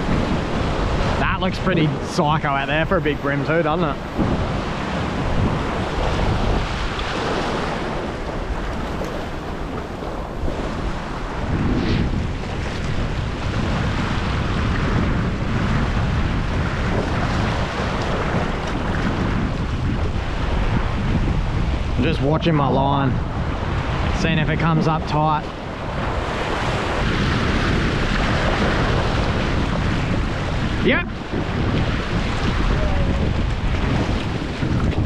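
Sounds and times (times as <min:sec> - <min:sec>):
ocean swell washing over rocks: 0:00.0 - 0:35.0
wind buffeting microphone: 0:00.0 - 0:35.0.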